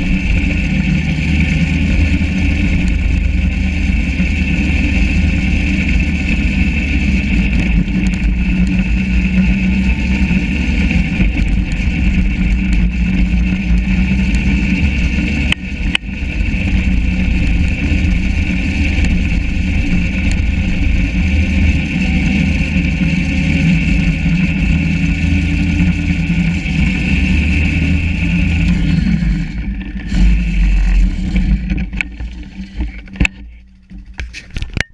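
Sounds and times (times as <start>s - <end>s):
high whine: 0.0s - 34.9s
snowmobile engine running: 0.0s - 34.9s.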